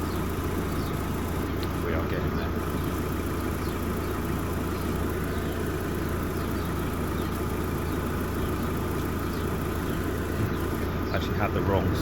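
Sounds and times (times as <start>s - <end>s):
air conditioning running: 0.0s - 12.0s
car engine idling: 0.0s - 12.0s.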